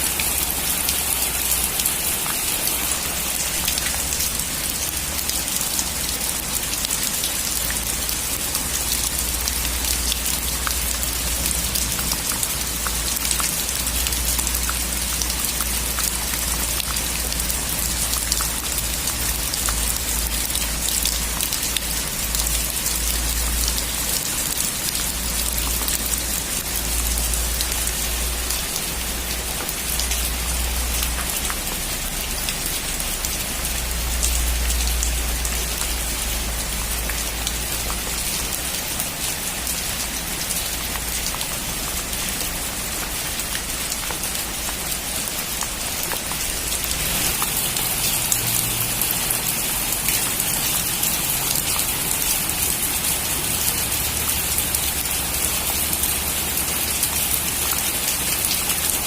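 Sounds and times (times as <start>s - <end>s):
heavy rain on a metal roof: 0.0s - 59.0s.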